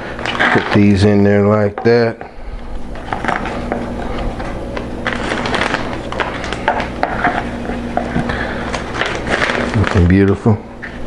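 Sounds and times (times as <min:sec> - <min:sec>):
plastic bag crinkling: 0:00.0 - 0:01.1, 0:02.7 - 0:10.6.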